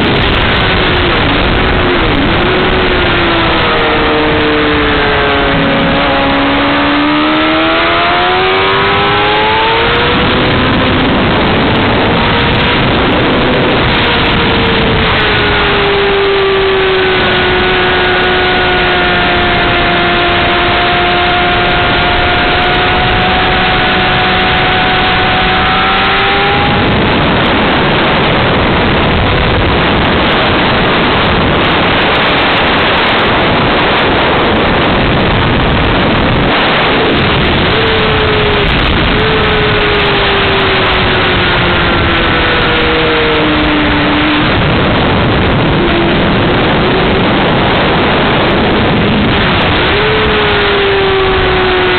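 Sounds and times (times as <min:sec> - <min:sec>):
heavy wind rush on microphone: 0:00.0 - 0:51.9
motorcycle engine revving: 0:00.0 - 0:51.9.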